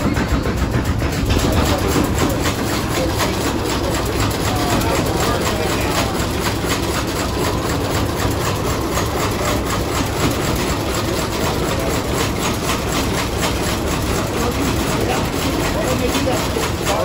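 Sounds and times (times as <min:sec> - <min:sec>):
stationary oil engine running: 0:00.0 - 0:17.0.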